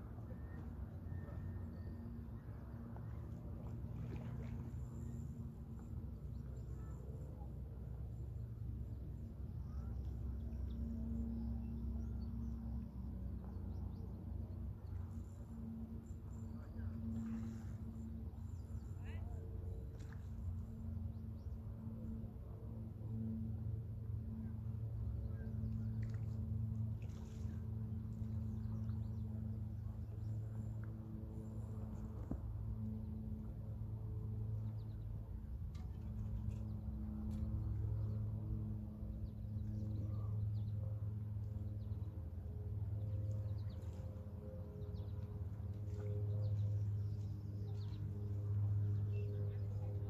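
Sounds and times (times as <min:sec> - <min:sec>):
hum: 0:00.0 - 0:50.0
low rumble: 0:00.0 - 0:50.0.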